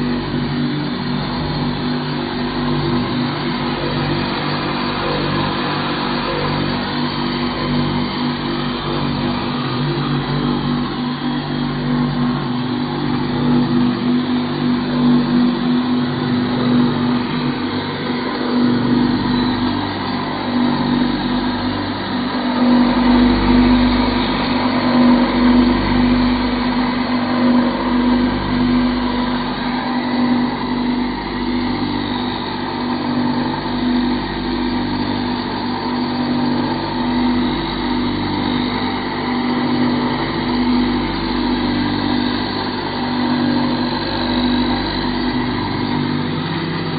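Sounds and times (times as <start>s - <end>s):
knife sharpening machine humming: 0.0s - 46.9s.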